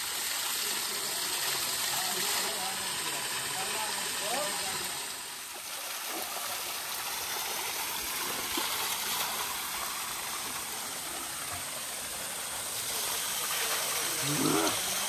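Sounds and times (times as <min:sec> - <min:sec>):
water pouring and splashing on stone: 0:00.0 - 0:15.0.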